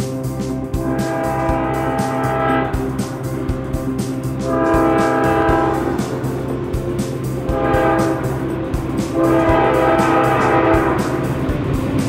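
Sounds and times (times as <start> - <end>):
locomotive horn blasts: 0.7 - 3.5, 4.1 - 11.5.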